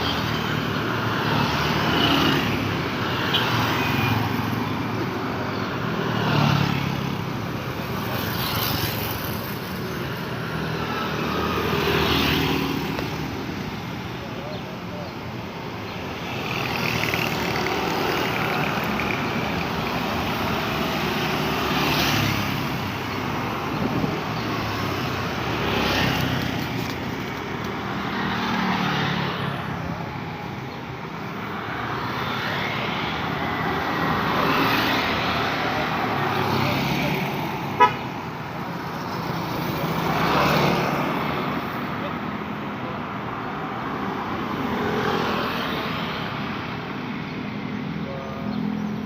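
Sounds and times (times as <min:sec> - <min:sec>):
cars and motorbikes passing: 0:00.0 - 0:49.0.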